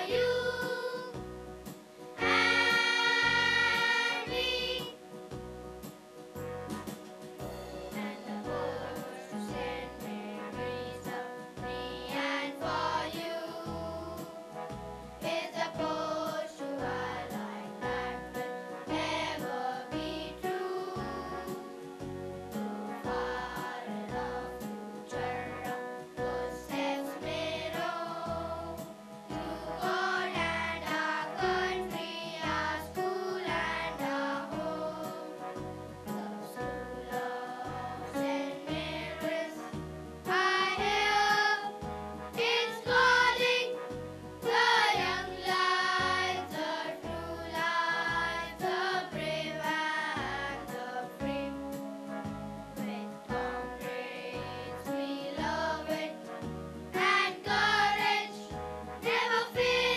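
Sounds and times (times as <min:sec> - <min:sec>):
children's choir singing: 0:00.0 - 0:05.0, 0:07.5 - 0:52.2, 0:52.8 - 0:56.3, 0:56.9 - 0:59.9
instrumental accompaniment: 0:00.0 - 0:50.1, 0:55.1 - 0:59.9.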